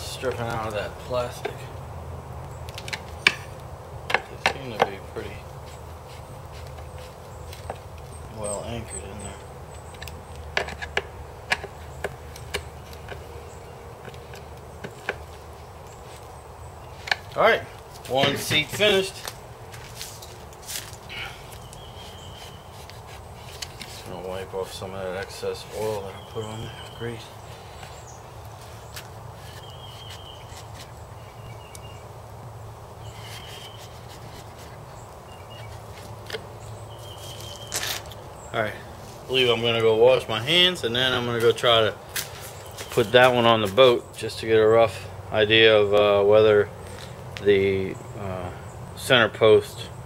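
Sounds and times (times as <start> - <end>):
bird chirping: 0.0 - 50.0.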